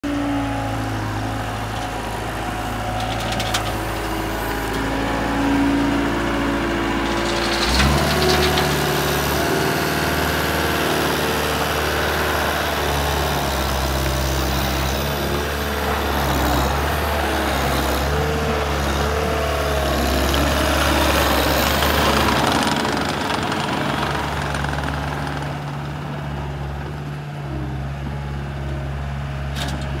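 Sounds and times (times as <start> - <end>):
track loader diesel engine: 0.0 - 30.0.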